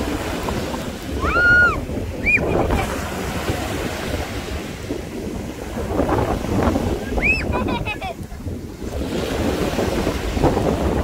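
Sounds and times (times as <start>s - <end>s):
sea waves breaking: 0.0s - 11.0s
wind buffeting microphone: 0.0s - 11.0s.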